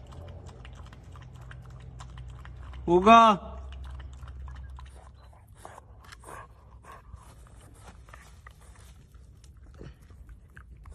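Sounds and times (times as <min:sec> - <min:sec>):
puppy chewing: 0:00.0 - 0:10.9.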